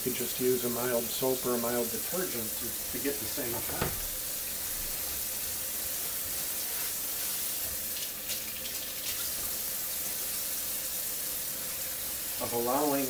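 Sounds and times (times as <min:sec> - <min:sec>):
faucet water into steel sink: 0:00.1 - 0:13.0.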